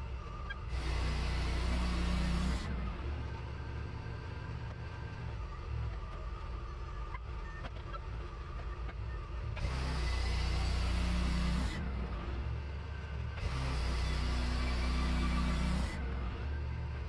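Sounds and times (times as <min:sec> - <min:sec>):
sawmill engine hum: 0:00.0 - 0:06.8, 0:09.5 - 0:17.0.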